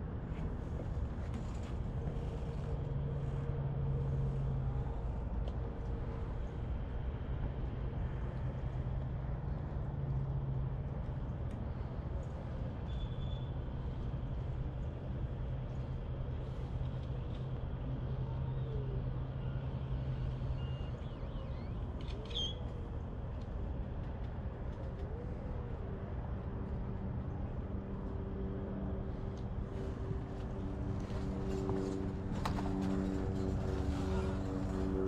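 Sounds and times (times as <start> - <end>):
engine rumbling: 0.0 - 35.0
hum: 0.0 - 35.0.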